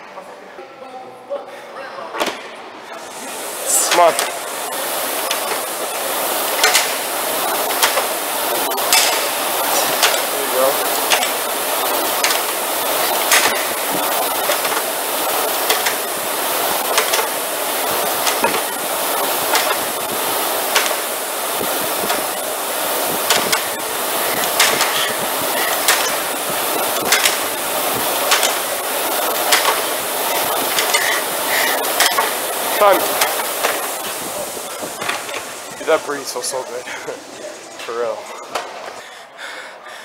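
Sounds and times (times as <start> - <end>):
rowing machine fan whooshing: 3.0 - 39.1
rowing machine clack: 3.7 - 36.6.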